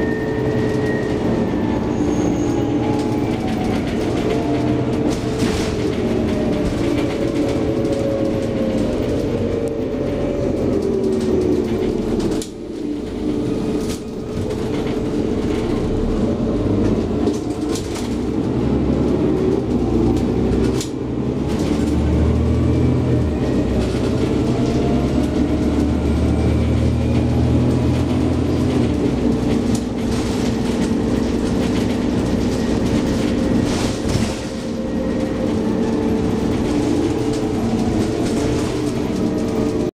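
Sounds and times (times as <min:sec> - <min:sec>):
bus engine whine: 0:00.0 - 0:39.9
road noise: 0:00.0 - 0:39.9
knocks and rattles: 0:03.0 - 0:22.1, 0:23.7 - 0:39.9.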